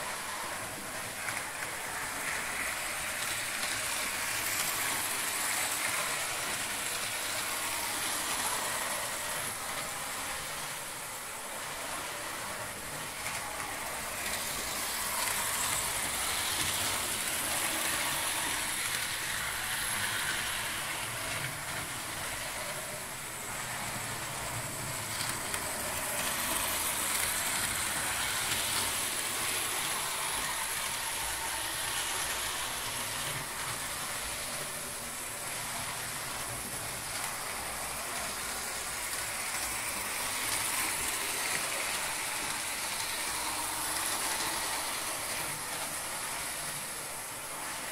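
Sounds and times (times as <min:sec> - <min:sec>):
model train motors whirring: 0:00.0 - 0:47.9
wheels running on rails: 0:00.0 - 0:47.9.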